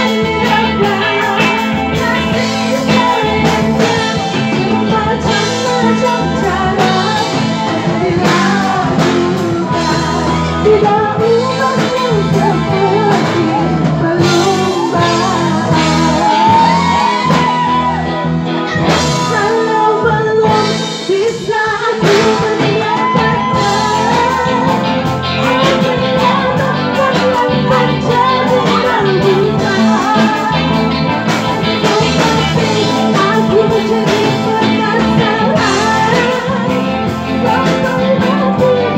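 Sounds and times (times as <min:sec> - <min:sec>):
electric guitar: 0:00.0 - 0:38.9
live band music: 0:00.0 - 0:38.9
person singing: 0:00.0 - 0:38.9.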